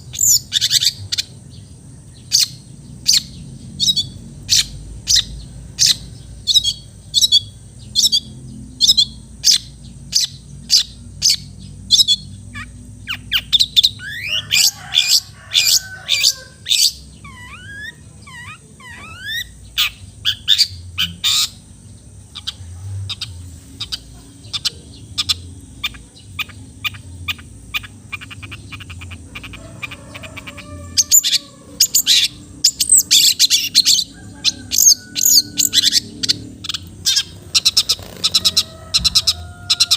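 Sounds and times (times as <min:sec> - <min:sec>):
fast dense bird chattering: 0:00.0 - 0:39.9.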